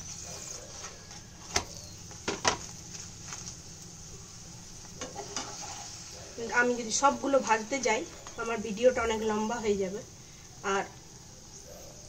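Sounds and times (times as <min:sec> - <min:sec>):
frying in oil sizzling: 0:00.0 - 0:12.0.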